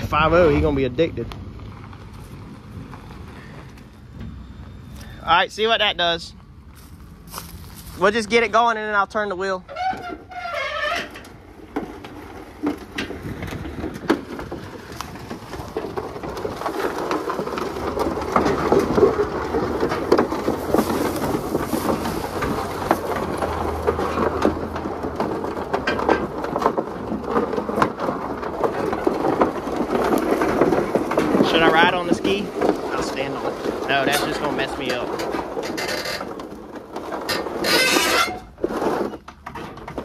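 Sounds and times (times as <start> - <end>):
truck engine pulling under load: 0.0 - 40.0
vehicle scraping over ground: 0.0 - 40.0.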